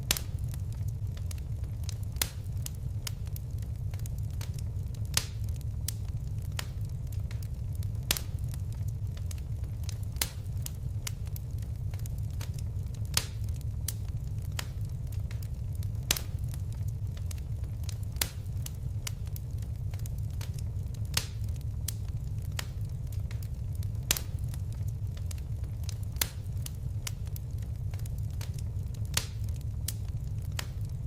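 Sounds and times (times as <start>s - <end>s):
fire crackling: 0.0s - 31.0s
low rumble of flames: 0.0s - 31.0s.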